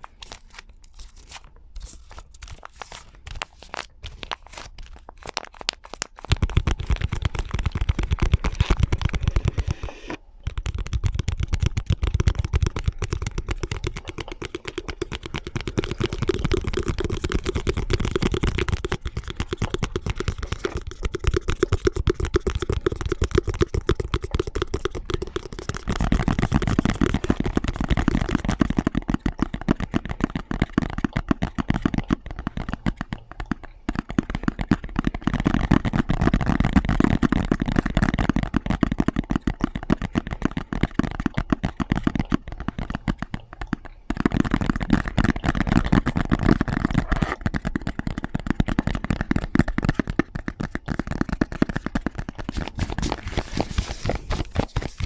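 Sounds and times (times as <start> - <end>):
rapid tapping on objects: 0.0 - 55.0.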